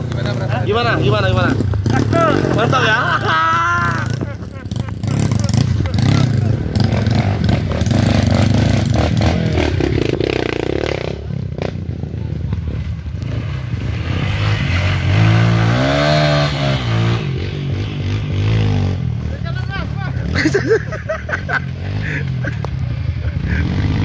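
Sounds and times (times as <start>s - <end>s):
dirt bike engines: 0.0s - 24.0s.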